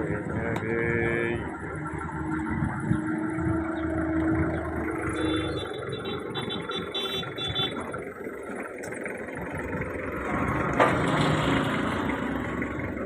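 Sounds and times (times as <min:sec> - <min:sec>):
engine idling roughly: 0:00.0 - 0:13.0.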